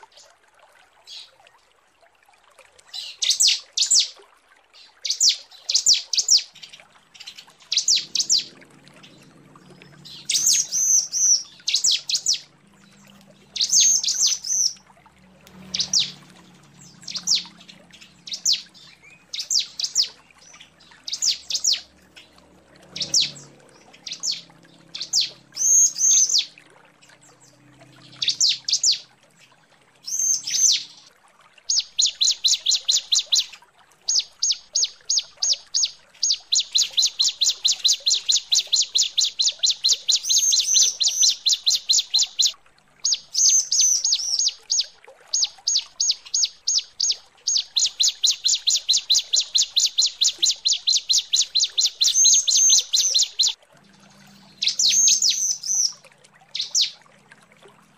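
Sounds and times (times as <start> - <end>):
bird chirping: 5.0 - 14.8, 15.5 - 26.5, 27.1 - 29.0, 30.0 - 31.1, 31.7 - 33.5, 34.1 - 53.6, 54.4 - 57.0.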